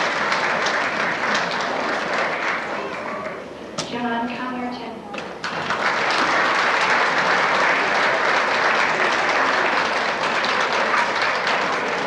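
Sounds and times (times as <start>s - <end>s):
audience applauding: 0.0s - 3.4s, 5.4s - 12.0s.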